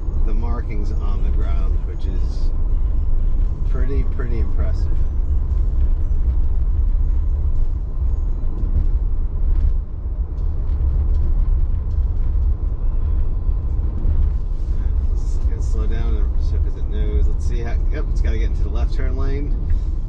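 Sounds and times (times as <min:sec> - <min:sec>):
tyre and road noise: 0:00.0 - 0:20.0.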